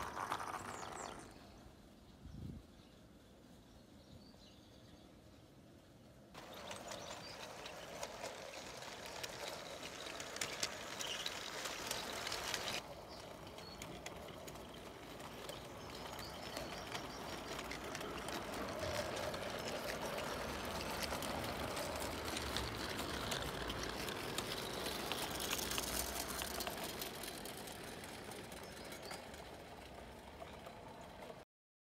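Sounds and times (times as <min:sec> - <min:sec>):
model train whirring and clicking: 0:00.0 - 0:01.9, 0:06.4 - 0:31.4.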